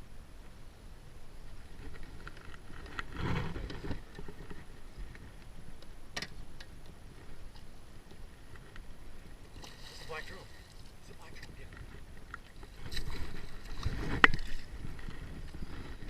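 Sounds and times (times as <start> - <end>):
wind noise on microphone: 0.0 - 9.6, 11.2 - 16.0
water noise: 0.0 - 16.0.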